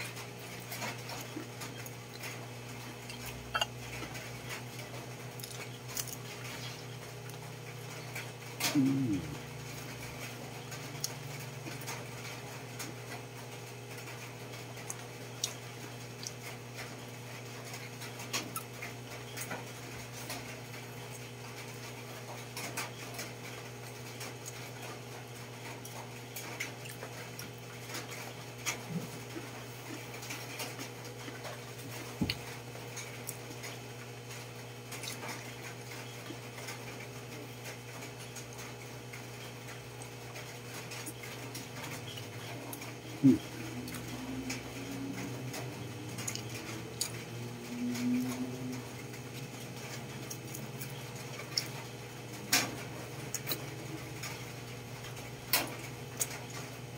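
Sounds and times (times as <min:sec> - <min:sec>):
chewing and lip smacking: 0:00.0 - 0:23.4, 0:24.0 - 0:56.7
steady low hum: 0:00.0 - 0:56.9.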